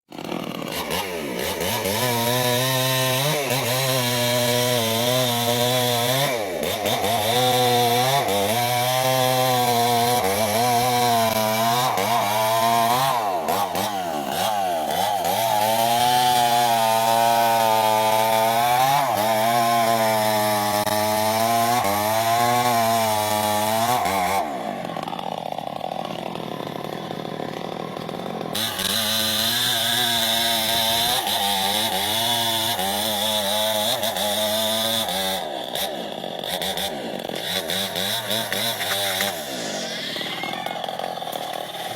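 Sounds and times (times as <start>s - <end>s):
chainsaw cutting wood: 0.1s - 41.9s.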